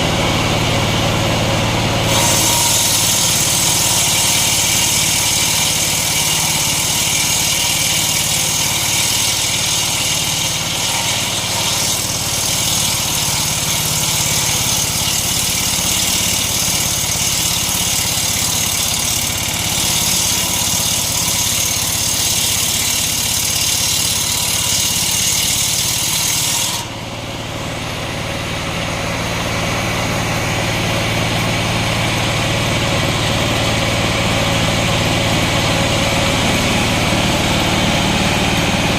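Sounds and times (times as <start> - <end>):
circular saw cutting wood: 0.0 - 38.9
small engine running: 0.0 - 38.9.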